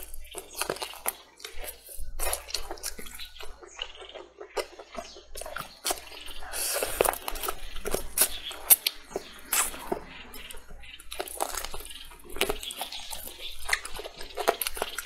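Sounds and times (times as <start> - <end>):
chewing meat: 0.0 - 15.0
mouth smacks and clicks: 0.0 - 15.0.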